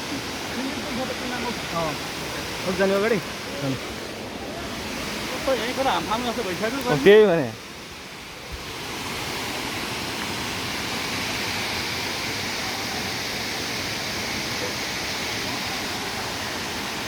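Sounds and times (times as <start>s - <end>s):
waterfall pouring: 0.0s - 17.0s.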